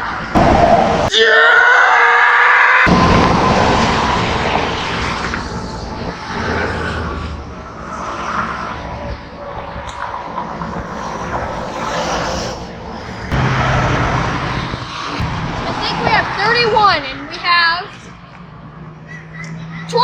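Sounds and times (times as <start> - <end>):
road traffic passing: 0.0 - 1.7, 2.6 - 20.0.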